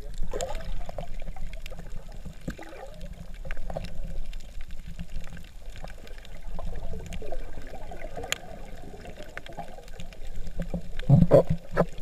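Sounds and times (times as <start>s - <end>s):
warbling bubble sounds: 0.0s - 4.3s, 5.6s - 12.0s
muffled underwater rumble: 0.0s - 12.0s.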